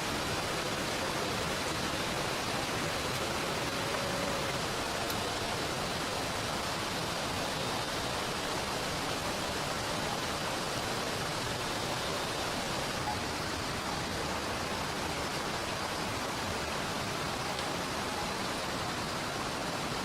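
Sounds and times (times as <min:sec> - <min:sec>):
heavy rain falling: 0:00.0 - 0:20.0
river flowing: 0:00.0 - 0:20.0.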